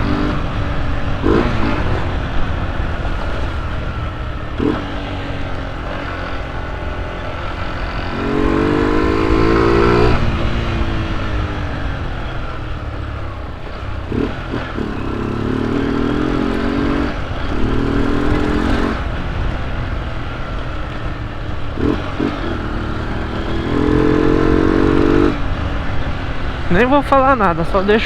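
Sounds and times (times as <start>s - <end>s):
motorcycle engine growling: 0.0s - 28.0s.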